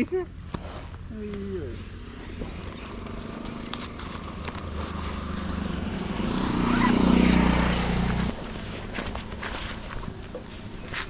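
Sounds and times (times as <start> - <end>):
vehicle engine running: 0.3 - 11.0.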